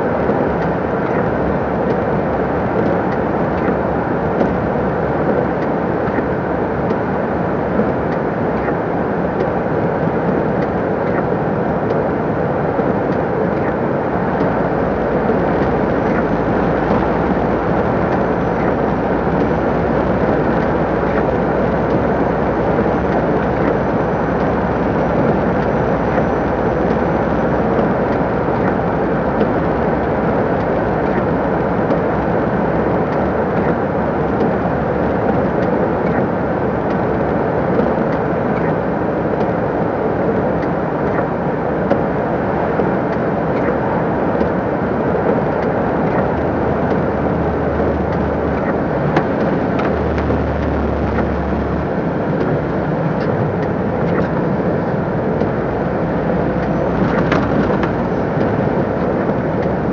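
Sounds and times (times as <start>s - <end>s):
diesel engine drone: 0.0s - 59.9s
tyre and road noise: 0.0s - 59.9s.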